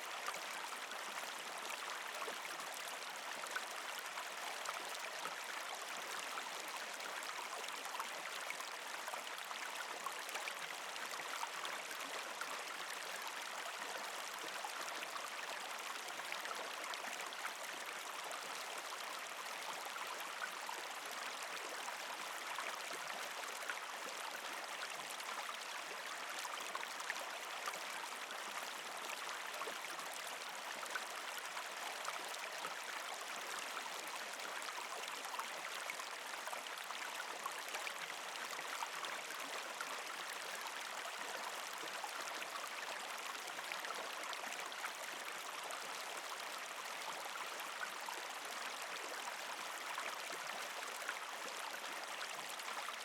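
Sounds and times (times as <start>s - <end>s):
creek water gurgling over rocks: 0.0s - 53.0s.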